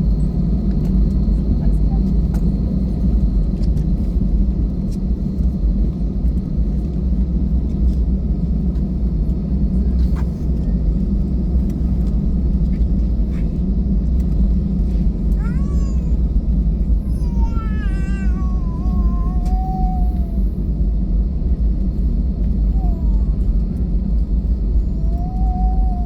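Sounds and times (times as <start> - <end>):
jet airliner cabin rumble: 0.0 - 26.0.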